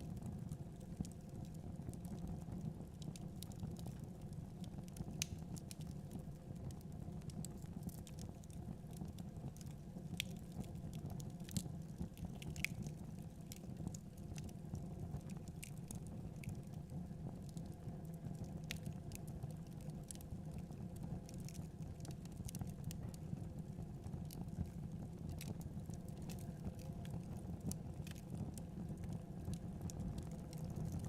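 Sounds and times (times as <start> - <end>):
low fire rumble: 0.0 - 31.0
wood fire crackling and popping: 0.0 - 31.0.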